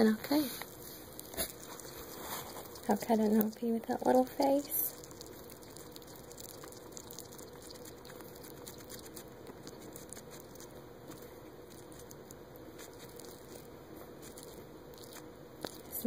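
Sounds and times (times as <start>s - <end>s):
hedgehog chewing: 0.0s - 16.0s.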